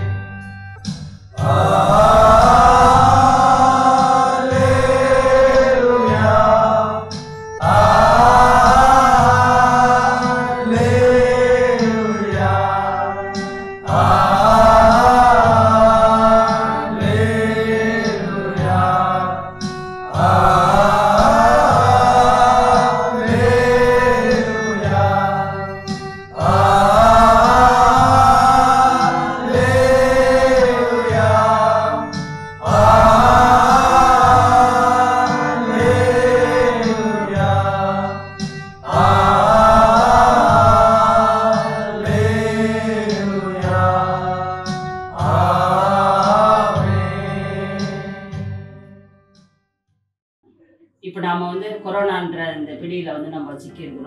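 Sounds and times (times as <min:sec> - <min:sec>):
men singing worship song: 0:01.4 - 0:48.8.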